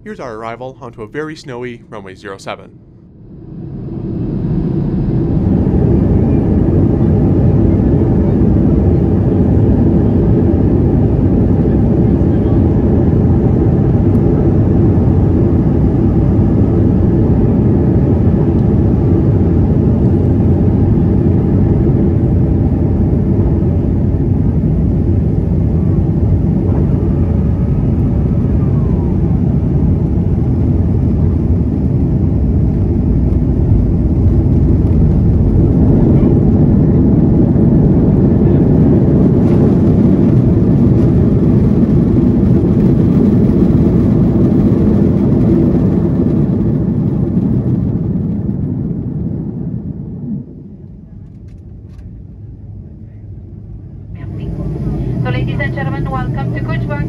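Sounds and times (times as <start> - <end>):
jet engine and airflow rush: 0.0 - 57.0.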